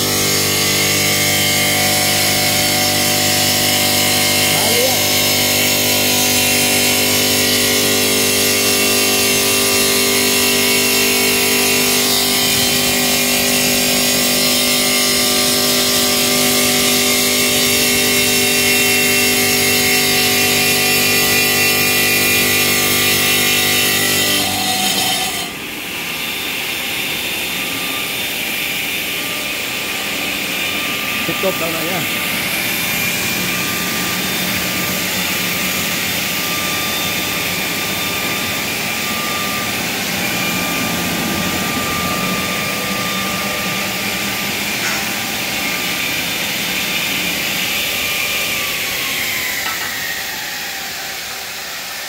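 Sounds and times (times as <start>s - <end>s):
machine whine: 0.0s - 52.0s.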